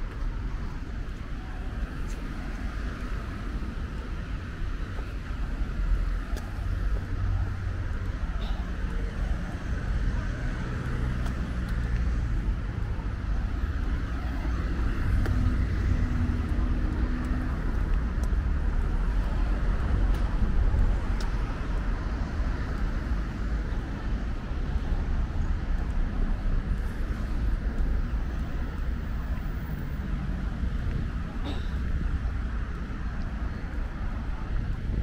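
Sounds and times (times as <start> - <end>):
car engines rumbling: 0.0 - 35.0.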